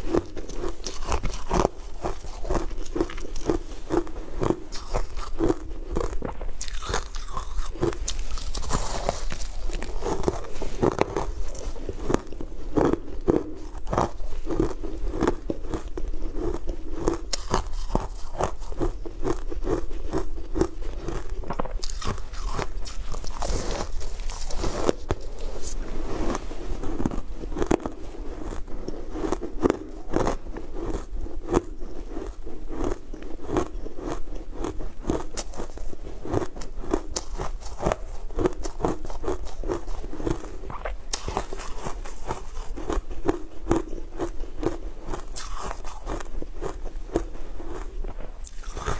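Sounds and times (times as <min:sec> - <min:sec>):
crunchy food being chewed: 0:00.0 - 0:48.9.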